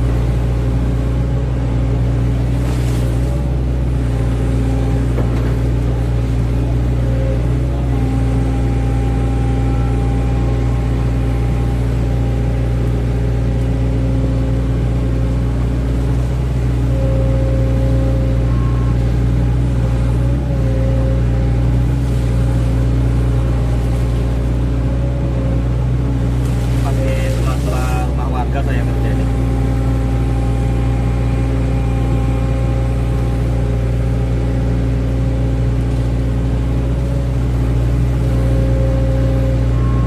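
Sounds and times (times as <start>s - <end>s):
excavator diesel engine running: 0.0s - 40.0s
hydraulics whining: 0.0s - 40.0s.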